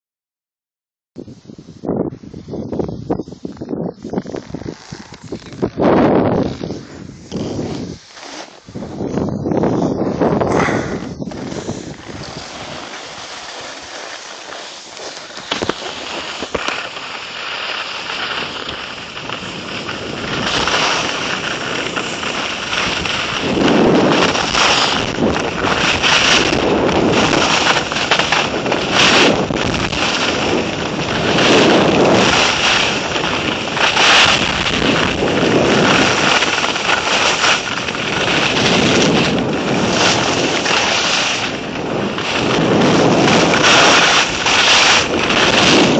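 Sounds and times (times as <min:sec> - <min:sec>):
wind rushing over microphone: 0:01.2 - 0:45.9
skis scraping over snow: 0:03.4 - 0:45.9.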